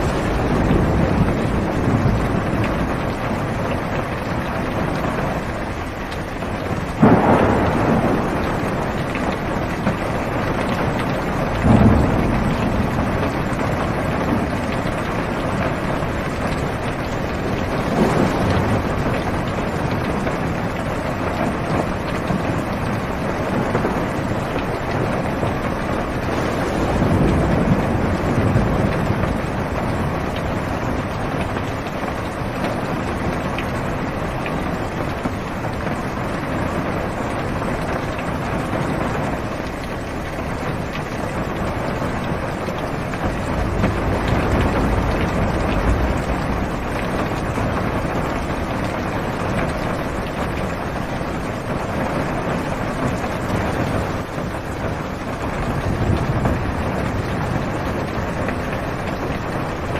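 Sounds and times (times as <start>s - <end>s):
heavy rain on car roof: 0.0s - 59.9s
thunder rumbling: 0.0s - 59.9s.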